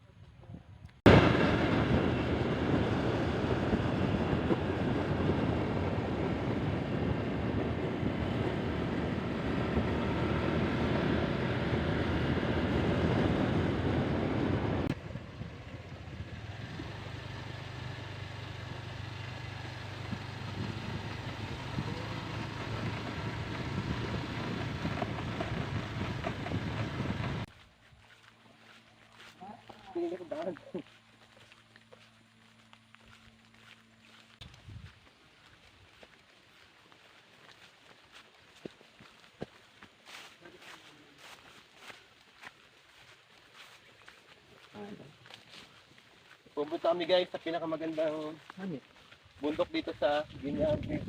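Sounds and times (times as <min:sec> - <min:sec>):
moving vehicle running noise: 0:01.0 - 0:51.0.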